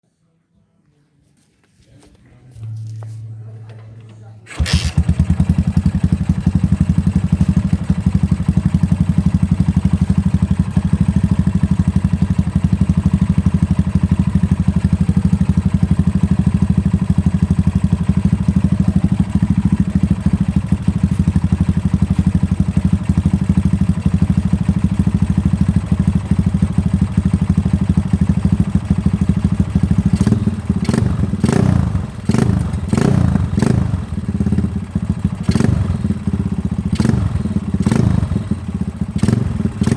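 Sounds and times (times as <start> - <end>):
motorcycle engine idling and blipping: 4.5 - 39.9.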